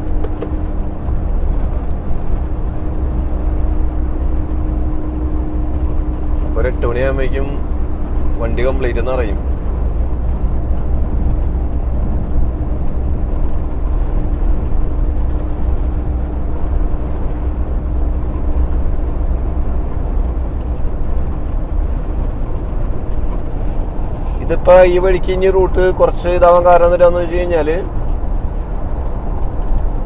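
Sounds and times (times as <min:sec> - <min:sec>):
road and tyre noise: 0:00.0 - 0:30.0
truck engine drone: 0:00.0 - 0:30.0.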